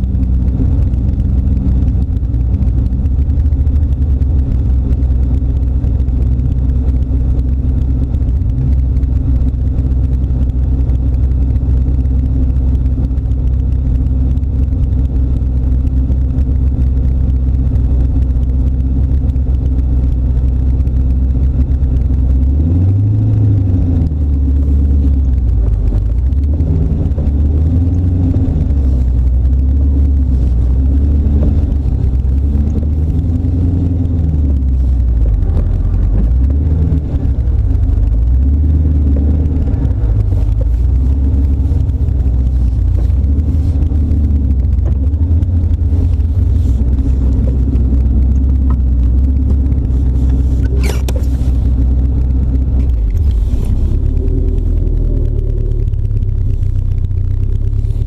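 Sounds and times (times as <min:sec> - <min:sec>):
engine idling and revving: 0:00.0 - 0:58.0.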